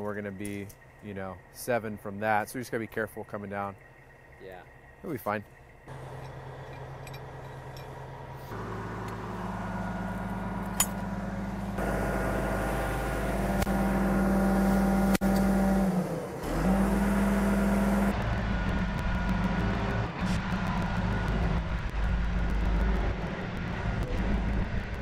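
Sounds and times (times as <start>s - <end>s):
crane engine running at raised revs: 3.8s - 25.0s.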